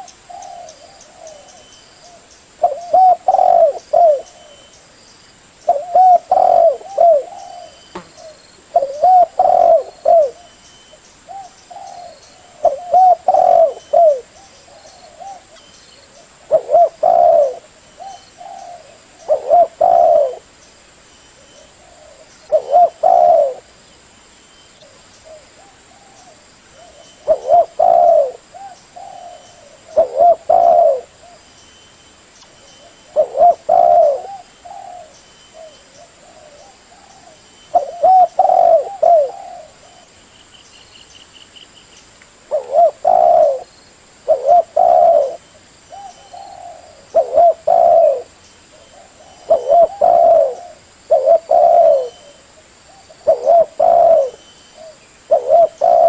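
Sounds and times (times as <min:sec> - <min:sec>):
dove cooing: 0:00.0 - 0:04.7, 0:05.6 - 0:10.6, 0:11.3 - 0:20.5, 0:21.4 - 0:23.7, 0:24.8 - 0:31.5, 0:32.8 - 0:40.1, 0:42.5 - 0:56.0.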